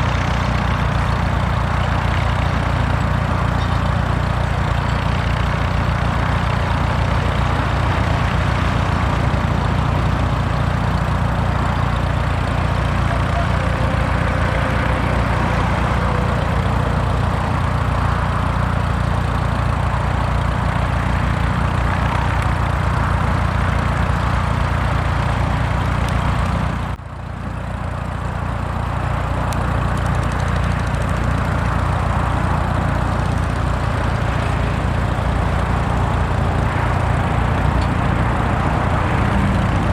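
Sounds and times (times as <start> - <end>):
tractor engine throbbing: 0.0 - 39.9.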